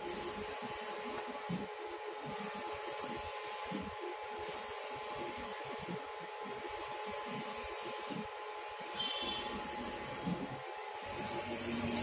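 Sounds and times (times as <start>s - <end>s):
printer whirring and hissing: 0.0s - 12.0s.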